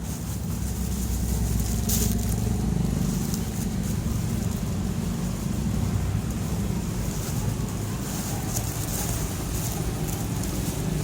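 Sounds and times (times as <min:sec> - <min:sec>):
low engine-like hum: 0:00.0 - 0:11.0.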